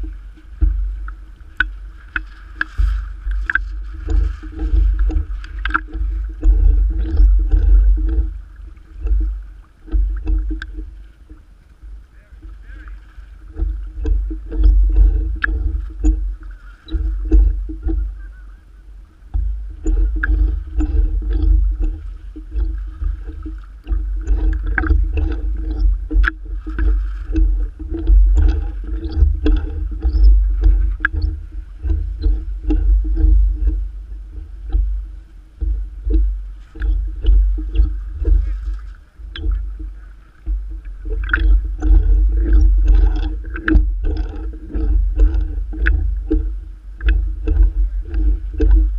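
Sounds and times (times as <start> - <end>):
heavy low rumble: 0.0 - 48.9
small splashing clicks: 0.0 - 48.9
water sloshing and slapping: 0.0 - 48.9.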